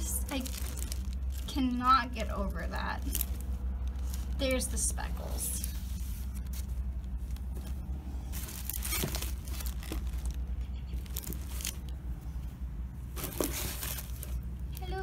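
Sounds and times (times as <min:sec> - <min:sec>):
tissue paper and plastic crinkling: 0:00.0 - 0:12.0, 0:13.1 - 0:15.0.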